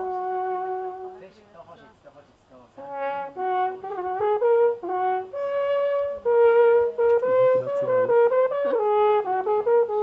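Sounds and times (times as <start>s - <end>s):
alphorn playing a melody: 0.0s - 1.2s, 2.8s - 10.0s.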